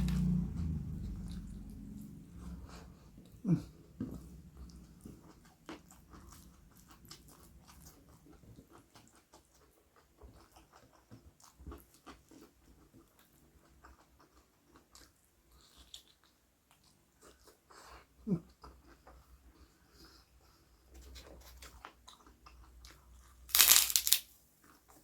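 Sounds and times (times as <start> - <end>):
chewing food: 0.0 - 25.0.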